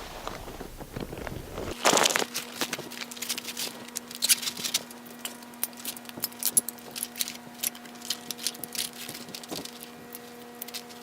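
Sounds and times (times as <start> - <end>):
kayak rustling and clicking: 0.0 - 11.0.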